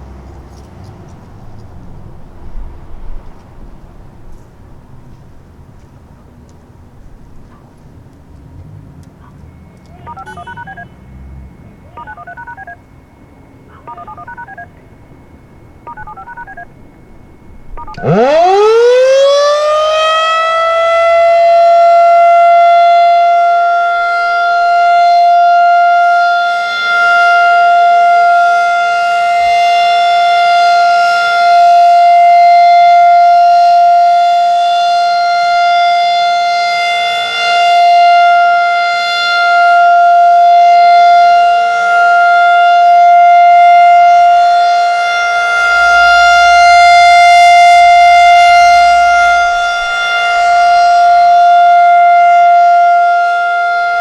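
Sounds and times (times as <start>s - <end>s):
tornado siren steady tone: 9.2s - 54.0s.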